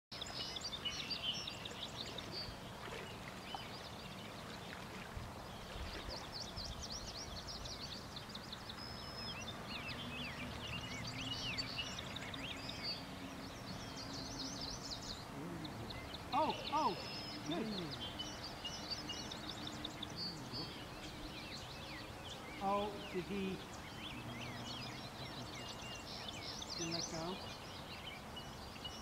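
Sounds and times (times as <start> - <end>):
small birds chirping and singing: 0.1 - 29.0.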